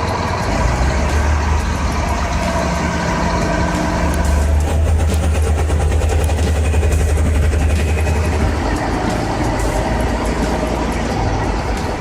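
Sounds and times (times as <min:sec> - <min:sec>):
heavy vehicle engine rumbling: 0:00.0 - 0:12.0.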